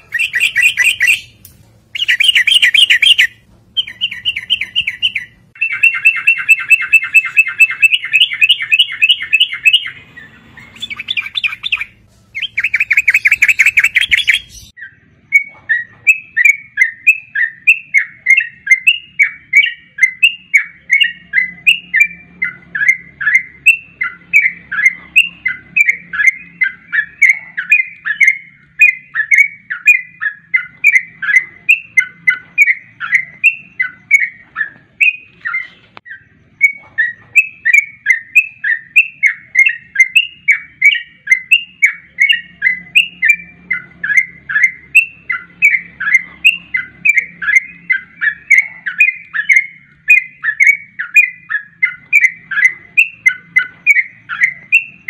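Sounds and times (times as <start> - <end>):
bird chattering trills: 0.0 - 55.0
short bird chirping notes: 0.0 - 55.0.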